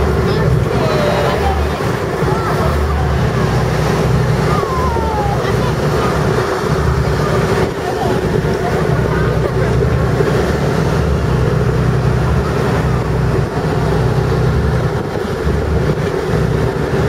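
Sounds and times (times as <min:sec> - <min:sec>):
boat engine droning: 0:00.0 - 0:17.0
rushing wind and water: 0:00.0 - 0:17.0.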